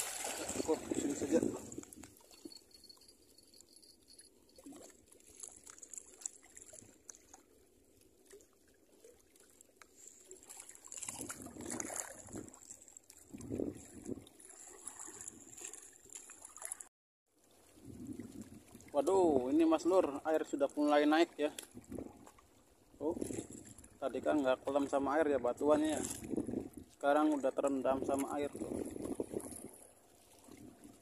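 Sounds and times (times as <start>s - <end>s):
water lapping among rocks: 0.0s - 24.5s, 25.7s - 31.0s.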